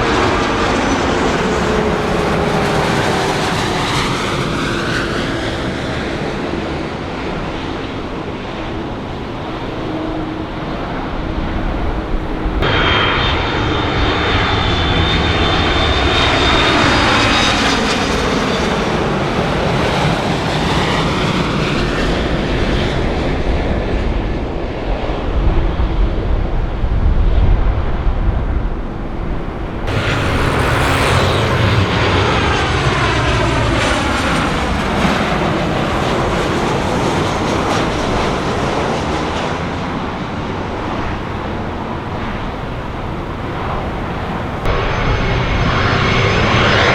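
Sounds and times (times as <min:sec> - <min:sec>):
jet engines passing: 0:00.0 - 0:46.9.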